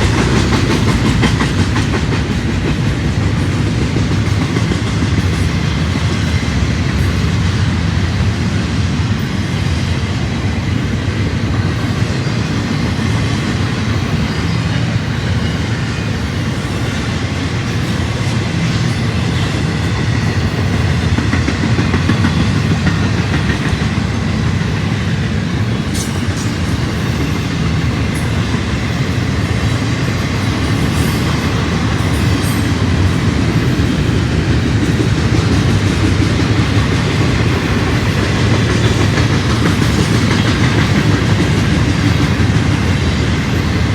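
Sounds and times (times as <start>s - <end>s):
train rumble: 0.0s - 43.9s
train wheels clacking: 0.0s - 43.9s.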